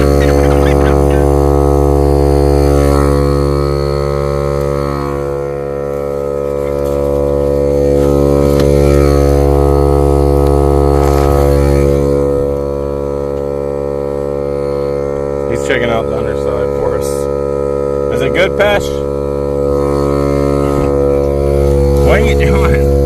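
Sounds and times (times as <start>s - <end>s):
air compressor humming: 0.0s - 23.0s.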